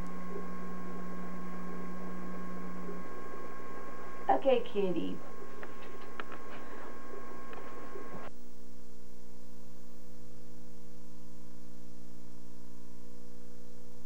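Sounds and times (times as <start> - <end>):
electrical hum with hiss: 0.0 - 14.0.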